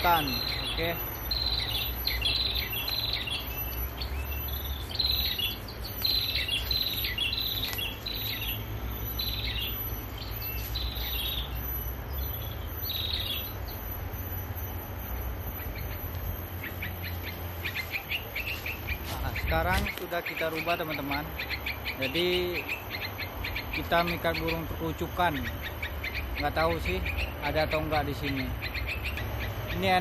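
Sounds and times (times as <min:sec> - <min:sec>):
bird chirping: 0:00.0 - 0:30.0
low traffic rumble: 0:00.0 - 0:30.0.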